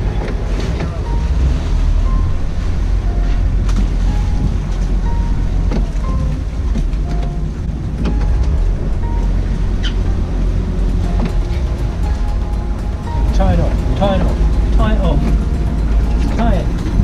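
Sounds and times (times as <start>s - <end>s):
faint background music: 0.0s - 17.0s
wind buffeting microphone: 0.0s - 17.0s.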